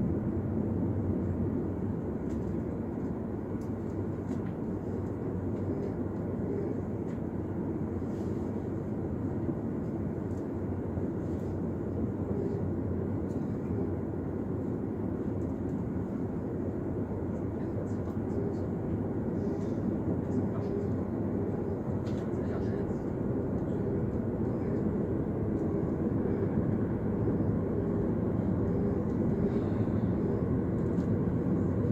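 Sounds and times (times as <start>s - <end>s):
train rumbling from inside: 0.0s - 31.9s.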